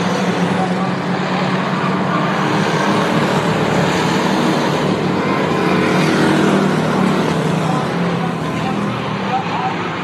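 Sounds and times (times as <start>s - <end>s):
racing car engines droning: 0.0s - 10.0s.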